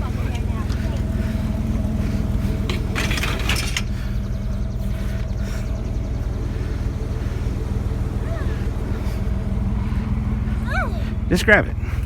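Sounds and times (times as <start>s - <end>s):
rattling clatter: 0.0s - 12.0s
vehicle engine idling: 0.0s - 12.0s.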